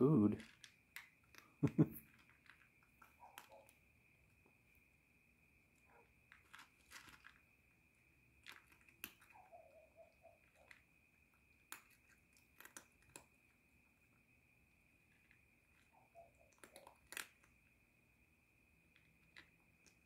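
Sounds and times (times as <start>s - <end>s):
cat crunching food: 0.4s - 4.3s, 6.1s - 9.5s, 10.1s - 20.0s.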